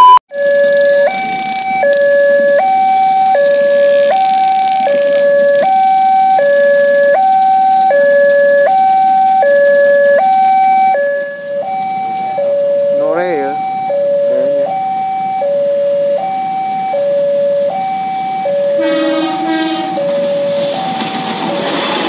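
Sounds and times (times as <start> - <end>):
two-tone crossing alarm: 0.0 - 21.9.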